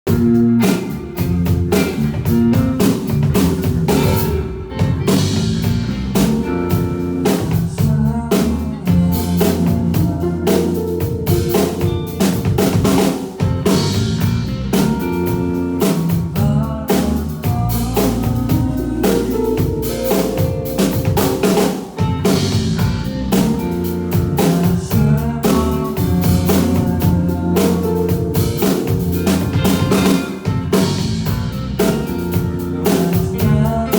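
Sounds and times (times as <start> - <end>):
drum kit beat: 0.0 - 33.9
live band playing: 0.1 - 33.9.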